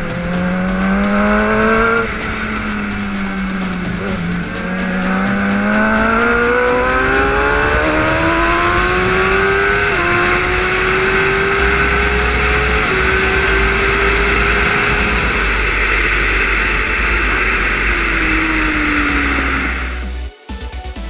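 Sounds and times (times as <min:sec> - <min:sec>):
wind rush: 0:00.0 - 0:20.0
motorcycle engine accelerating: 0:00.0 - 0:20.3.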